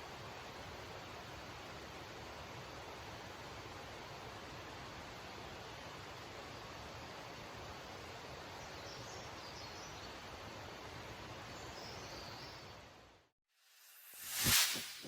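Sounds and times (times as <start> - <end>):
outdoor bush hiss: 0.0 - 15.0.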